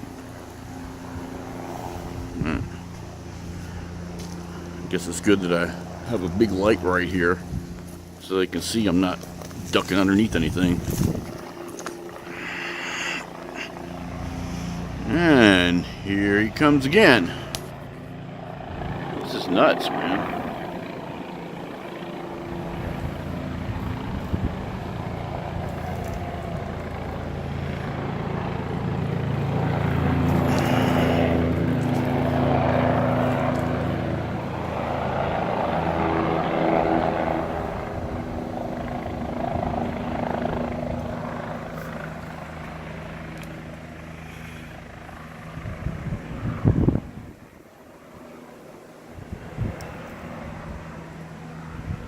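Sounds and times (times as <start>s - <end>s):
helicopter rotor and engine drone: 0.0s - 52.0s.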